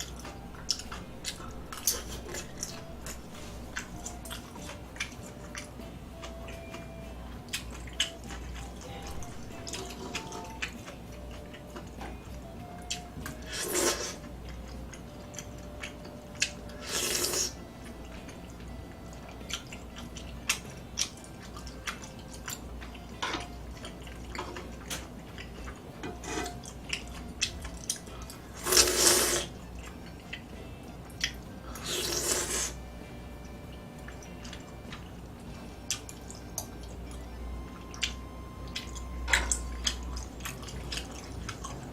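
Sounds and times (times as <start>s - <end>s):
wet chewing: 0.0s - 32.8s, 34.0s - 41.9s.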